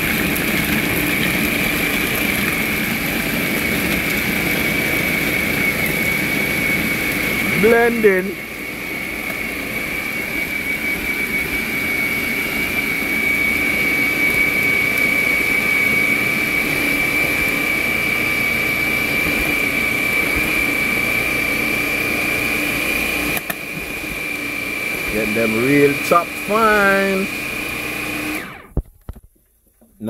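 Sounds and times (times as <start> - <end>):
food processor motor whine: 0.0 - 29.2.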